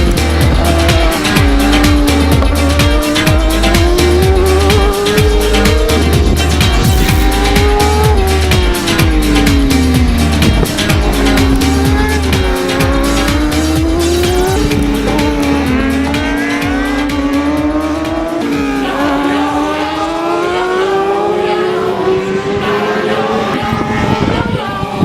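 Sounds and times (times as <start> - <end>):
music with steady beat: 0.0 - 23.5
motorcycle engine revving: 0.0 - 25.0.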